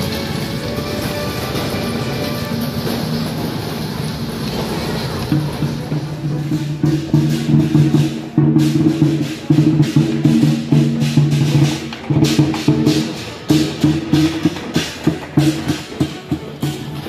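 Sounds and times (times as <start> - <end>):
drums: 0.0 - 17.0.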